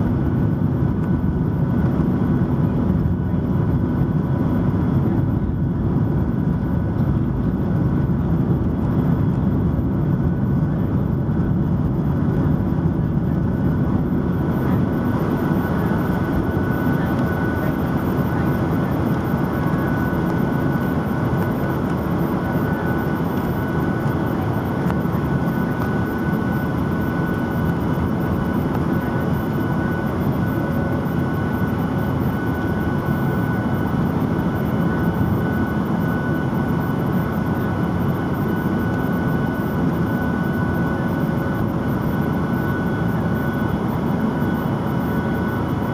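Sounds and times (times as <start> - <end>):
high engine whine: 0.0 - 45.9.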